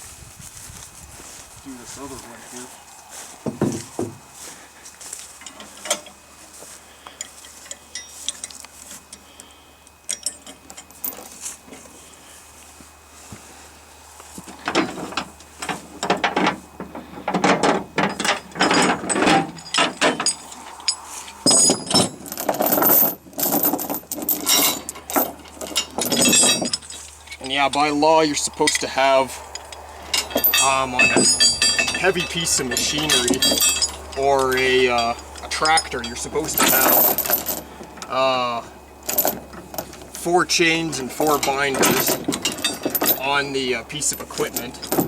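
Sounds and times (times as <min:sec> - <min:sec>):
chain links clanking and rattling: 0:05.1 - 0:12.1, 0:14.2 - 0:45.0.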